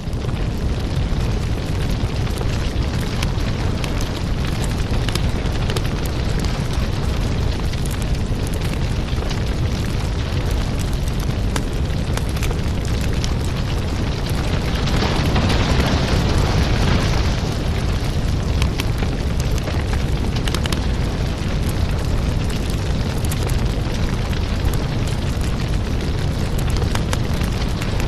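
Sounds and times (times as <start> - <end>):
fire burning with crackles: 0.0 - 28.0.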